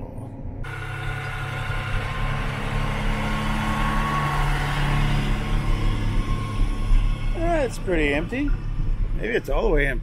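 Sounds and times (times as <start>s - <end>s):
combine harvester engine running: 0.6s - 9.7s.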